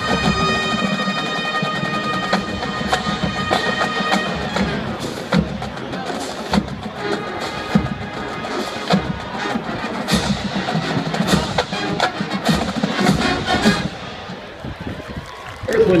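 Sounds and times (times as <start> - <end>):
drumline drum hits: 0.0 - 14.6
marching band brass chords: 0.0 - 14.7.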